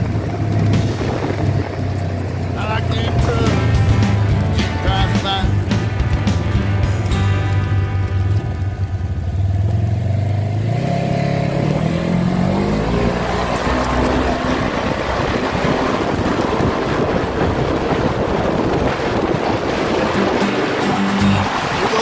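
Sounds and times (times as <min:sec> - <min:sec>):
wind rush on microphone: 0:00.0 - 0:09.5, 0:12.8 - 0:22.0
vehicle engine revving: 0:00.0 - 0:22.0.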